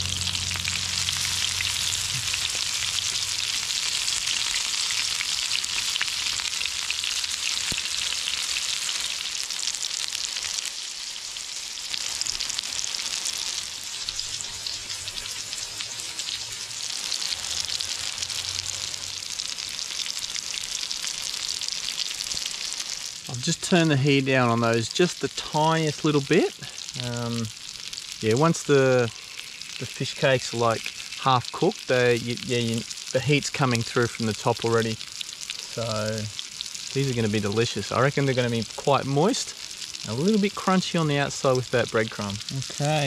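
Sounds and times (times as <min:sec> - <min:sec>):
fish cakes sizzling in oil: 0:00.0 - 0:43.0.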